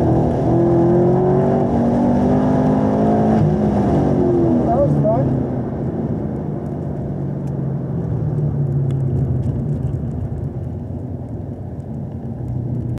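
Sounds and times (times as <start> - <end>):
car engine at low revs: 0.0 - 13.0
tyre and road noise: 0.0 - 13.0.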